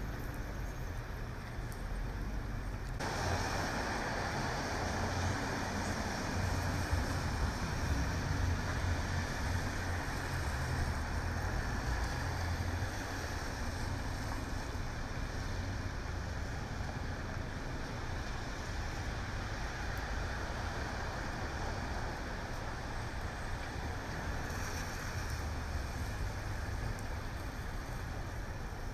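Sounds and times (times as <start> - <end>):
rain and tyres hissing on wet pavement: 0.0 - 28.9
passing cars rumbling: 2.0 - 28.9.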